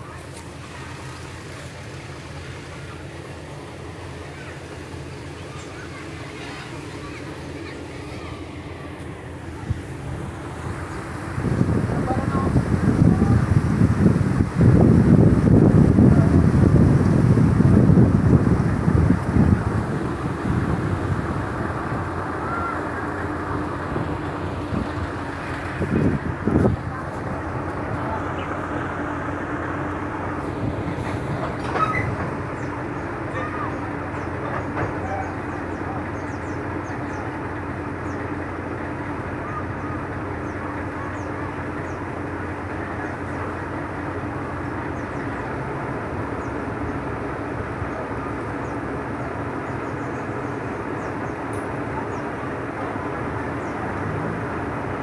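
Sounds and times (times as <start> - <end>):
crane engine droning: 0.0 - 55.0
wind buffeting microphone: 0.0 - 55.0.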